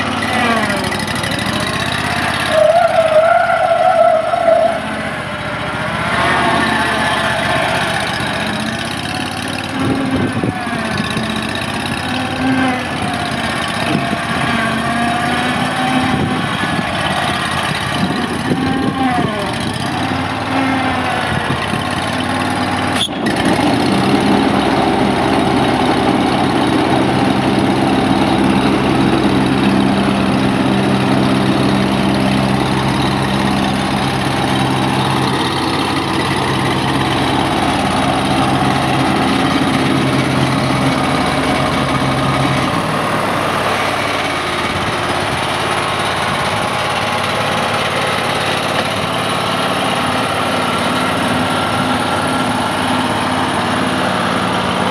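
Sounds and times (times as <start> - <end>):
mower engine running: 0.0 - 54.9.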